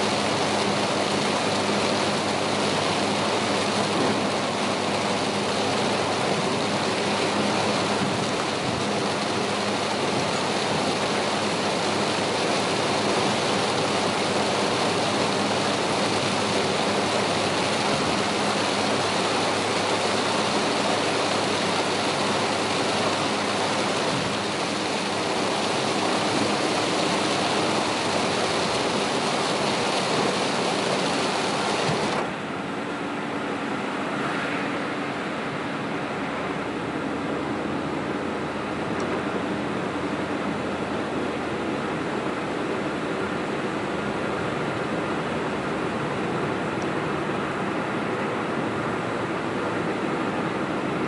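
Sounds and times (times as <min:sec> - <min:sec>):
heavy rain on a car: 0:00.0 - 0:51.0
low road drone: 0:00.0 - 0:51.0.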